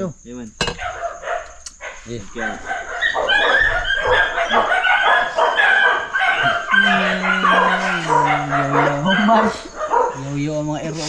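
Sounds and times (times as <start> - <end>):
dogs barking and yelping: 0.7 - 11.0.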